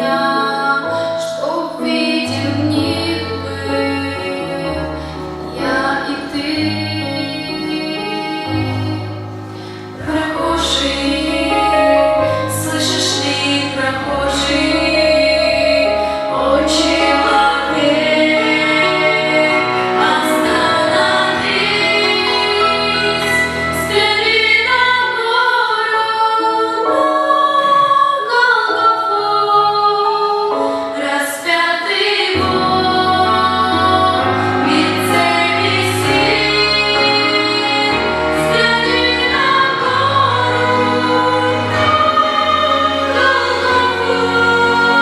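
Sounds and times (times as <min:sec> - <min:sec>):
instrumental accompaniment: 0:00.0 - 0:45.0
women singing in harmony: 0:00.0 - 0:45.0.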